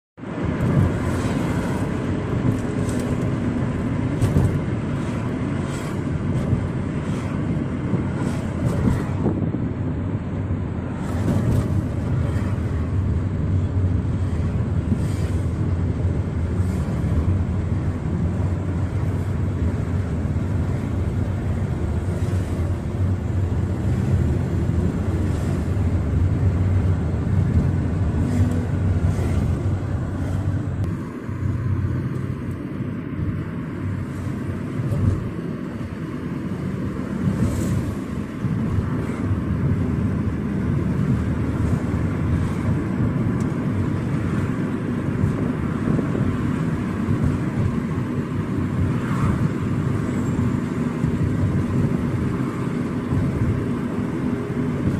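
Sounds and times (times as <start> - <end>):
car engine and tyre rumble: 0.2 - 54.9.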